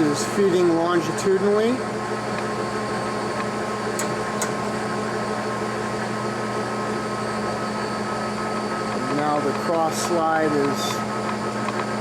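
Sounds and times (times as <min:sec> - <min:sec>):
lathe humming and whining: 0:00.0 - 0:12.0.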